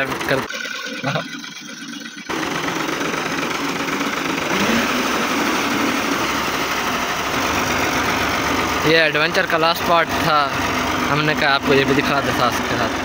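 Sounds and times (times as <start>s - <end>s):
tractor diesel engine running: 0.0s - 1.6s, 2.3s - 13.0s.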